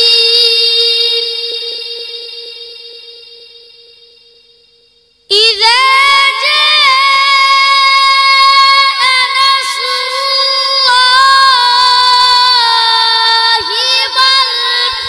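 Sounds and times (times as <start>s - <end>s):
boy chanting melodic recitation: 0.0s - 2.7s, 5.3s - 15.0s.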